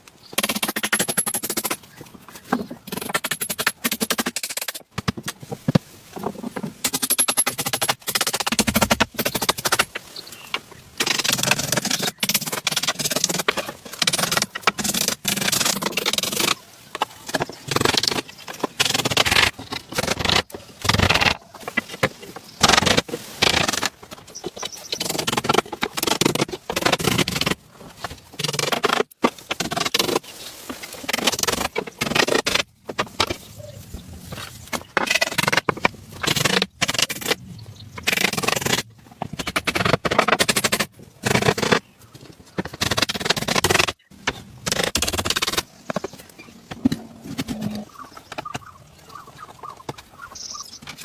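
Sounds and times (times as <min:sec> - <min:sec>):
irregular scraping and knocking: 0:00.3 - 0:51.0.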